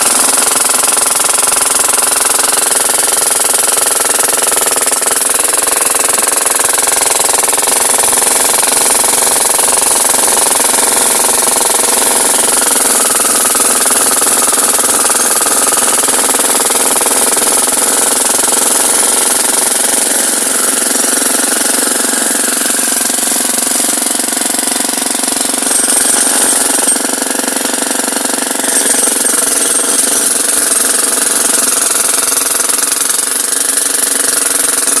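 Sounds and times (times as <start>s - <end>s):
engine running: 0.0s - 34.0s
hydraulic hammer pounding: 0.0s - 35.0s.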